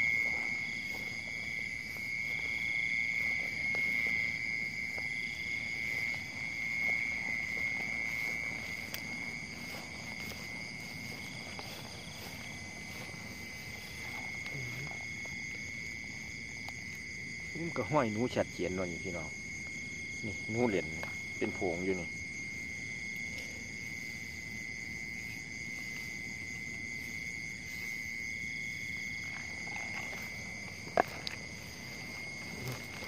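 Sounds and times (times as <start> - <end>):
frogs and insects droning: 0.0 - 33.0.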